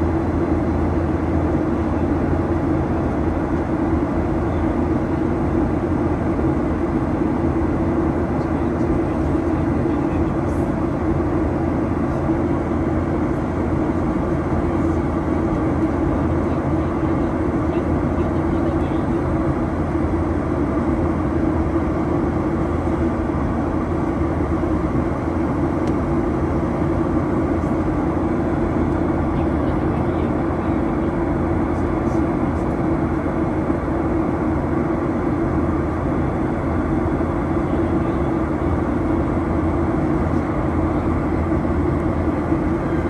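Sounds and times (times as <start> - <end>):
jet engine and airflow rush: 0.0 - 43.0
low cabin hum: 0.0 - 43.0.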